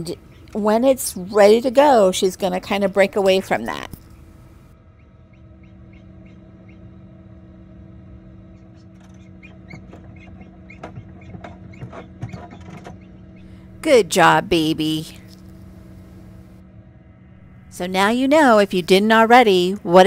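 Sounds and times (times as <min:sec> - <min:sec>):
incubator hum: 0:00.0 - 0:20.0.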